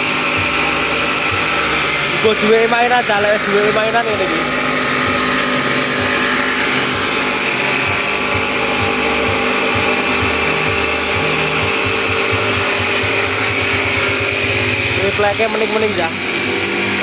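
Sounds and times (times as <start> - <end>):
constant hum: 0.0 - 17.0
machine whirring: 0.0 - 17.0.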